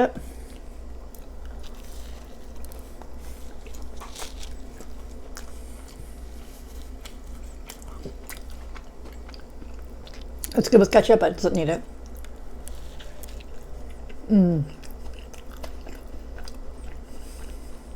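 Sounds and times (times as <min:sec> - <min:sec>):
steady low hum: 0:00.0 - 0:17.9
person biting and chewing food: 0:00.4 - 0:10.6, 0:11.9 - 0:17.9.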